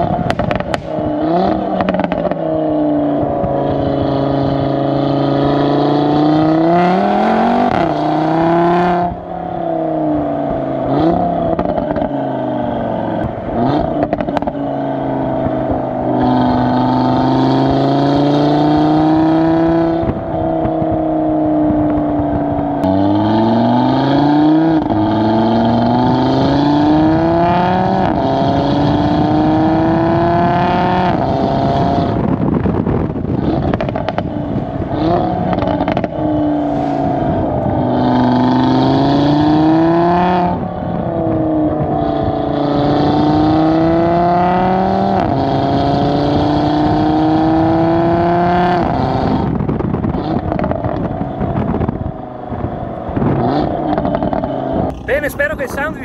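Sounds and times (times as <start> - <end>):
car engine and exhaust revving: 0.0 - 56.0.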